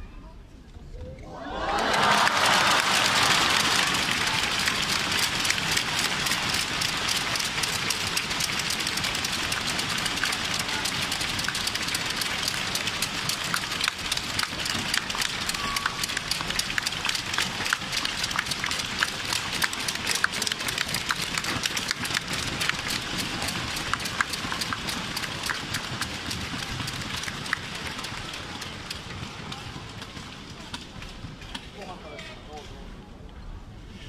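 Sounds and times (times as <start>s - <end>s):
crowd applauding: 1.2s - 31.0s.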